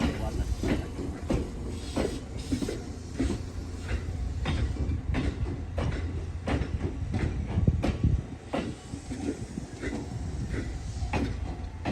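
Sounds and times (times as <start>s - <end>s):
low train rumble: 0.0s - 11.9s
train wheels clacking on rails: 0.0s - 11.9s.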